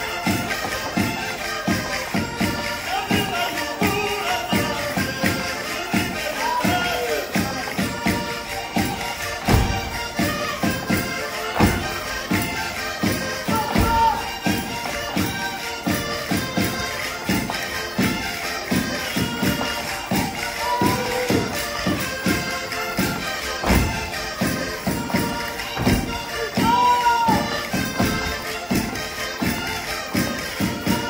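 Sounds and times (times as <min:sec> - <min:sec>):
folk dance music: 0:00.0 - 0:31.0
accented percussion beat: 0:00.1 - 0:31.0.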